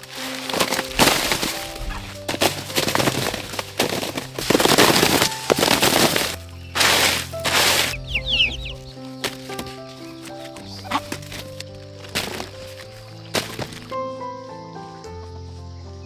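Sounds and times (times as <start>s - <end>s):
dry plant material crackling: 0.0s - 16.0s
soft background music: 0.0s - 16.0s.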